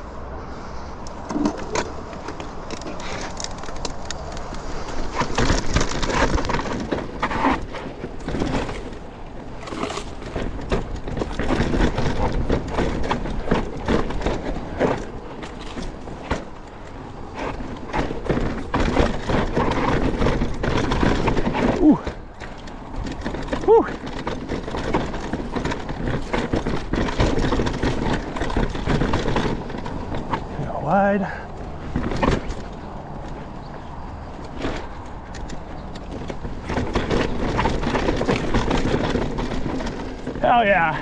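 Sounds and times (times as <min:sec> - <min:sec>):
bike rattling over bumps: 0:00.0 - 0:41.0
bike tyres rolling on dirt: 0:00.0 - 0:41.0.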